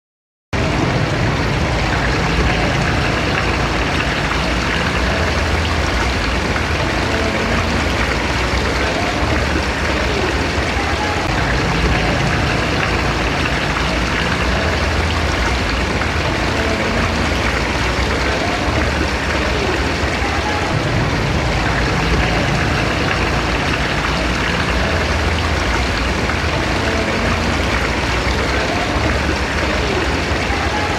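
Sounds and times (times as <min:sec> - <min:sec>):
water gushing: 0:00.6 - 0:30.9
water pump rumbling: 0:00.6 - 0:30.9.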